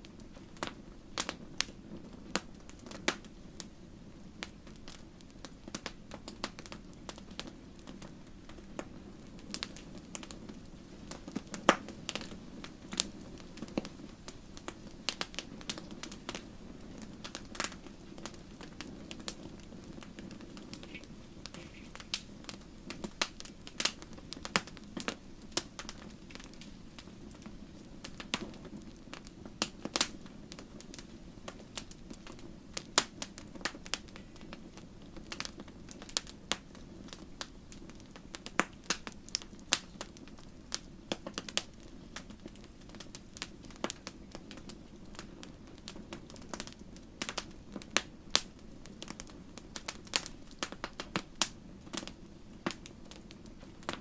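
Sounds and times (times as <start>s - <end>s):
low rumble of flames: 0.0s - 54.0s
campfire pops and snaps: 0.2s - 3.7s, 4.4s - 54.0s.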